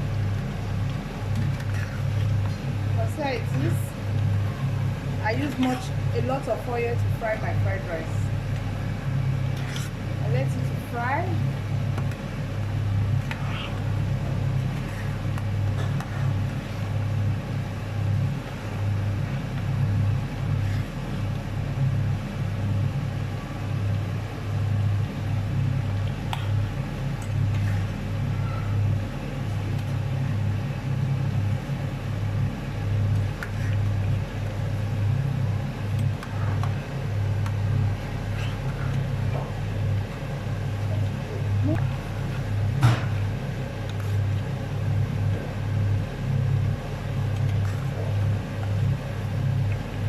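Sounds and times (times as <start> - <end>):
low rumbling hum: 0.0 - 50.0.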